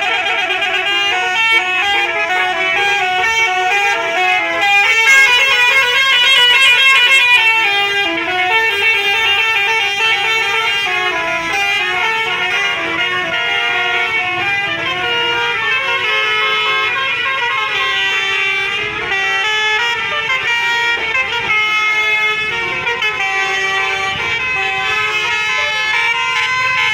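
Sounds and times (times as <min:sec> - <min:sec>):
bus horn playing a tune: 0:00.0 - 0:26.9.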